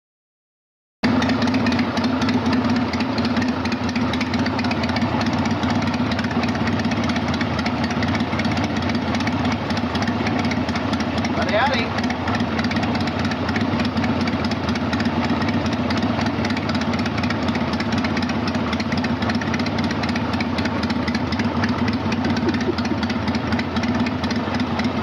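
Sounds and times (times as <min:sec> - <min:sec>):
motorcycle engine idling: 0:01.0 - 0:25.0.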